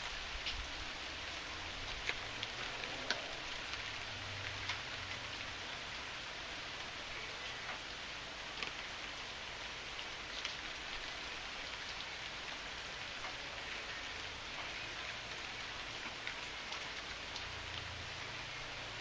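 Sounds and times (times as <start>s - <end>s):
heavy rain: 0.0s - 19.0s
raindrops ticking: 0.0s - 19.0s.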